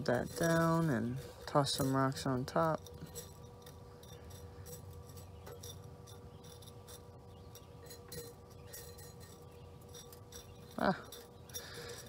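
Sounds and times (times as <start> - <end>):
small stones clinking: 0.0 - 12.0.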